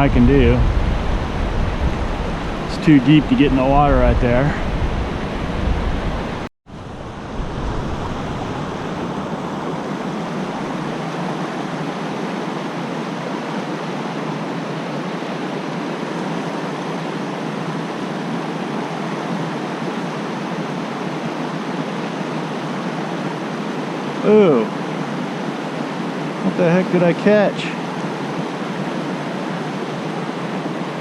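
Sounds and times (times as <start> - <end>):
fast-flowing creek rushing: 0.7 - 31.0.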